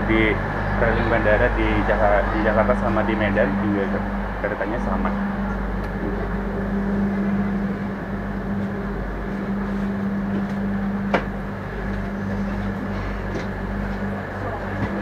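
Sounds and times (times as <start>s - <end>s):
low train machinery hum: 0.0s - 15.0s.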